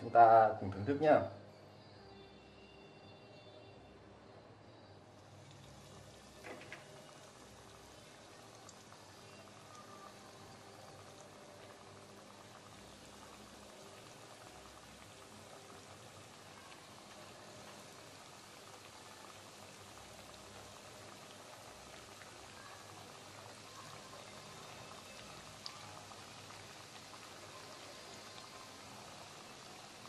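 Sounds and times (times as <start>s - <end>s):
oil sizzling and crackling: 5.0s - 30.0s.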